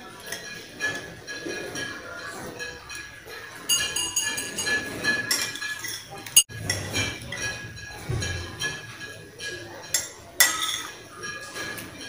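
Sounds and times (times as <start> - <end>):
metal spoon clinking on glass bowl: 0.0 - 12.0.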